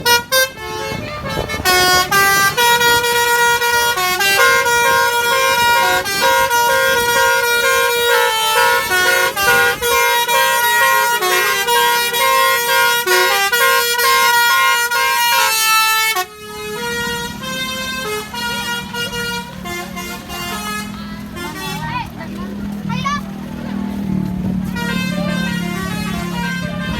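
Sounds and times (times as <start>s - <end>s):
musical air horn melody: 0.0s - 21.9s, 24.6s - 26.9s
low engine rumble: 0.0s - 26.9s.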